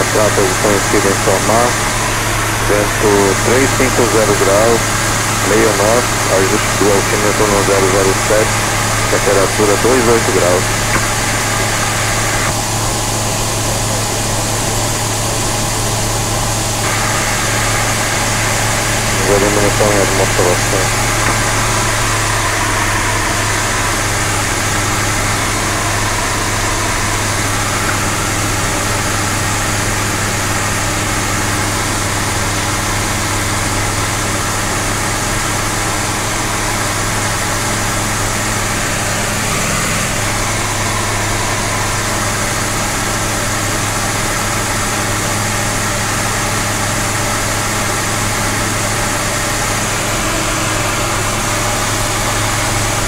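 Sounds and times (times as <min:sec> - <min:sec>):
light aircraft engine droning: 0:00.0 - 0:53.0.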